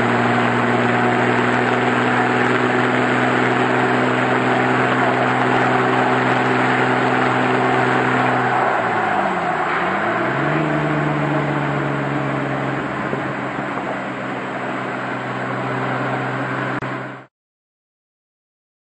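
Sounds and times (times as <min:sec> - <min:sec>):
car engine droning while driving: 0:00.0 - 0:17.3.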